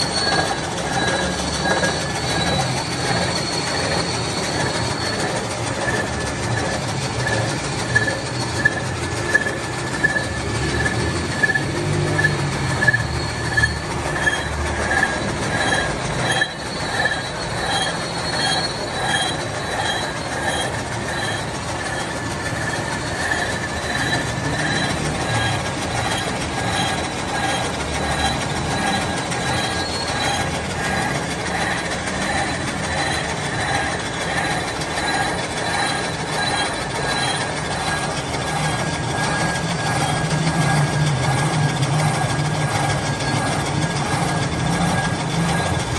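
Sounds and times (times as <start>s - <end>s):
milling machine metallic grinding whine: 0.0s - 45.9s.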